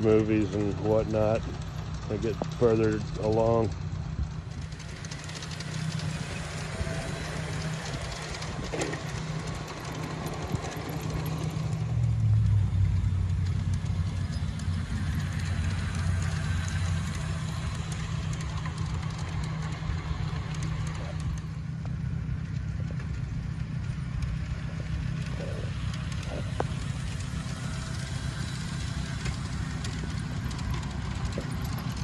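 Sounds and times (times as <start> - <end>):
model train humming: 0.0 - 32.0.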